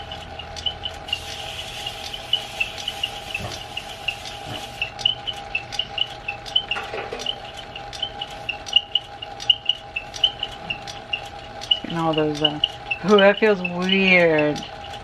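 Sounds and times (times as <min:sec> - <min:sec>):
lathe motor hum: 0:00.0 - 0:15.0.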